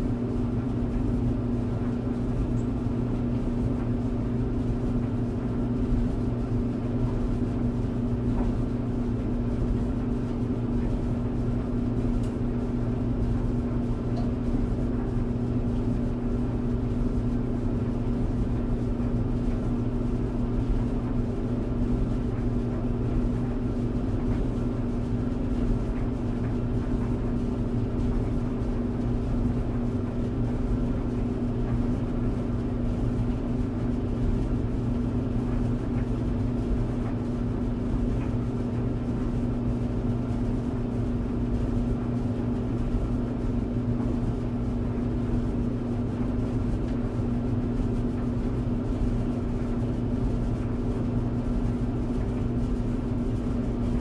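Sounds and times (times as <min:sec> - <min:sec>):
tumble dryer running: 0:00.0 - 0:54.0.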